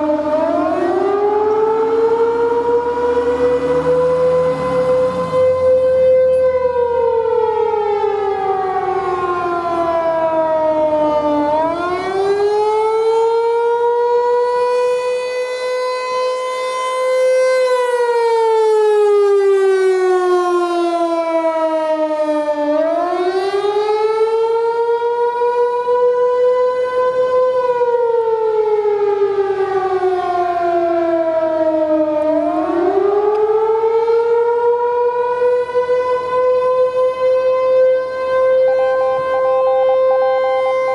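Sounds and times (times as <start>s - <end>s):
warning siren wailing: 0.0s - 40.9s.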